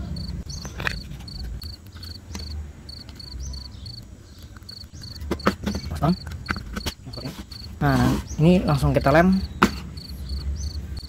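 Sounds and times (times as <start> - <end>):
cricket chirping: 0.0 - 7.9, 8.6 - 11.0.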